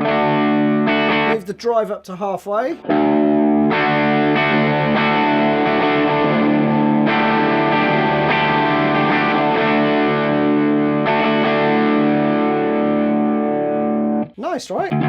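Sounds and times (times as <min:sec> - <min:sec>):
overdriven electric guitar chords: 0:00.0 - 0:01.4, 0:02.8 - 0:15.0.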